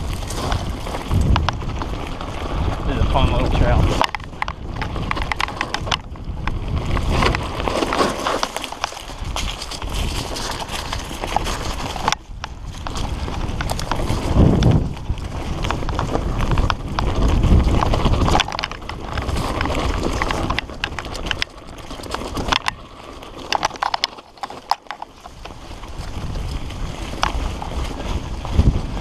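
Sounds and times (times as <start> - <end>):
bicycle clattering over bumps: 0.0 - 29.0
bike tyres on dirt: 0.0 - 29.0
wind rumbling on microphone: 0.0 - 29.0.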